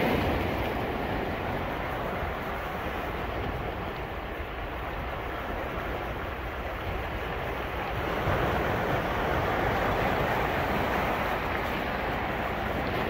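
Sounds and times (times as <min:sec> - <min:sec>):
surf washing onto beach: 0:00.0 - 0:13.0
wind rumbling on microphone: 0:00.0 - 0:13.0.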